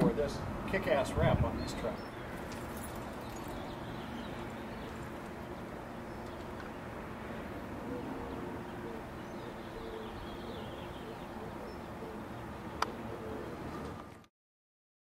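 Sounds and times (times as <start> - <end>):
birds calling: 1.0 - 14.1.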